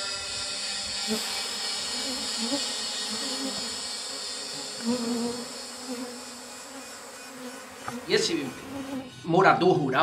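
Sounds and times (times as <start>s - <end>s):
honeybees buzzing: 0.0s - 9.2s.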